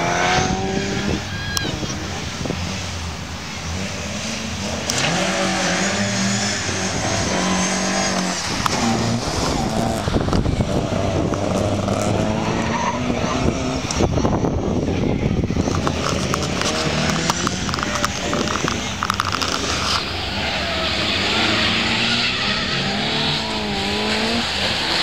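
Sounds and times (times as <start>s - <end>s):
rally car engine revving: 0.0s - 25.0s
tyre noise: 0.0s - 25.0s.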